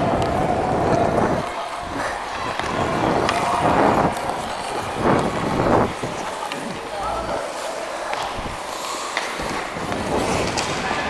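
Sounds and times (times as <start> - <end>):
skates scraping ice: 0.0 - 11.0.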